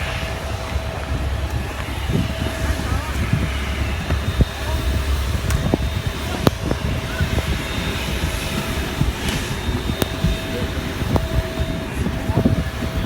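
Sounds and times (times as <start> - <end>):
airliner low rumble and whine: 0.0 - 13.0.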